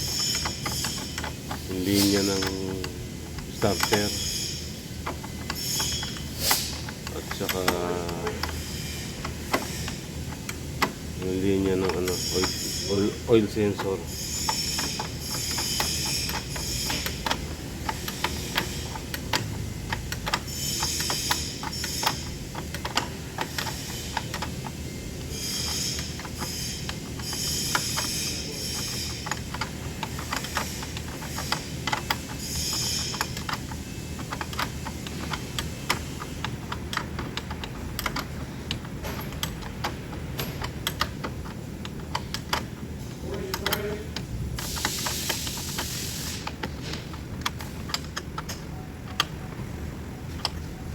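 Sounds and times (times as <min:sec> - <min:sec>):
metallic clicks and taps: 0:00.0 - 0:04.3, 0:09.2 - 0:50.8
ratchet wrench clicking: 0:00.0 - 0:49.4
steady low hum: 0:00.0 - 0:50.9.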